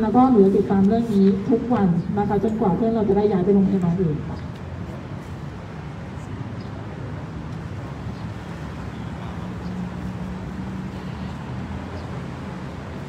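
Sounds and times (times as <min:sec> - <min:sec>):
faint street noise: 0:00.0 - 0:13.0.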